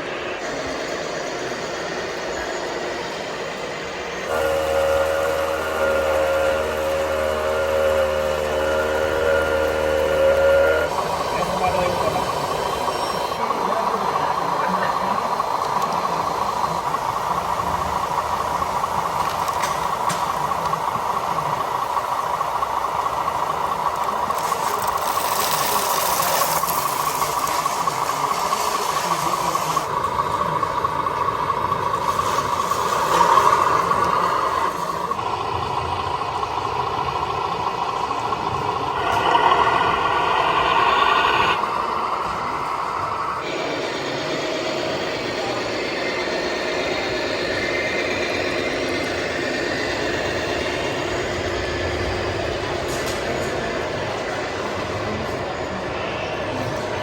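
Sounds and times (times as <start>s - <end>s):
hiss: 0.0s - 57.0s
model vehicle motors whining: 0.4s - 55.9s.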